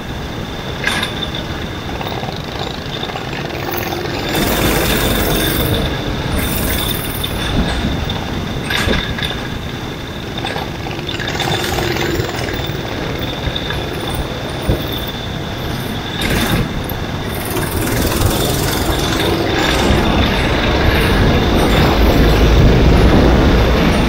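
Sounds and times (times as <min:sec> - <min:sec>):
kart engines racing: 0:01.9 - 0:14.8, 0:15.7 - 0:24.0.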